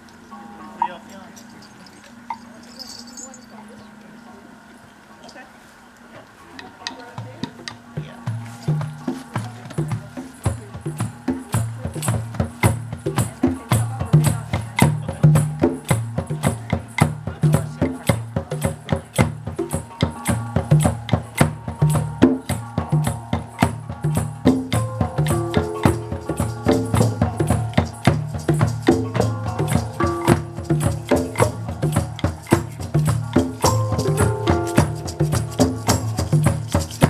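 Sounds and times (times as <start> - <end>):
shakers or tambourine: 0.8 - 3.9, 6.4 - 37.0
melodic instrument holding notes: 6.3 - 37.0
low-pitched drum beat: 6.6 - 37.0.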